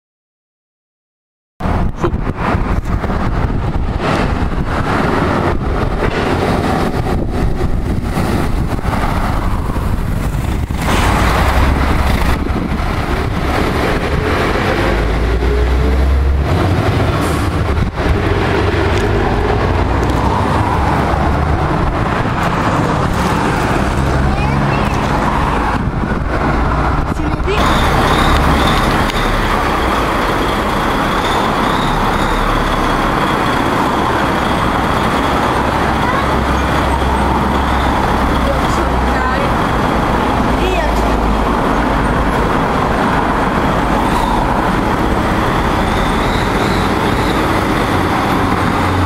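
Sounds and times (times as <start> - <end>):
diesel truck passing: 1.6 - 49.0
street traffic: 1.6 - 49.0.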